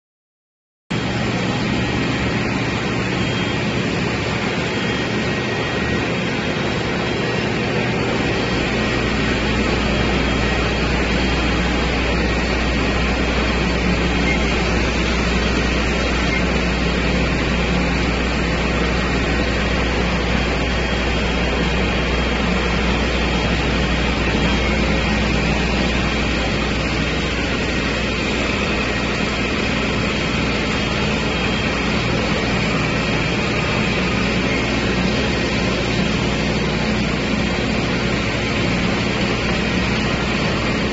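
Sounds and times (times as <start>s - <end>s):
concrete floor grinder roaring: 1.0s - 40.9s.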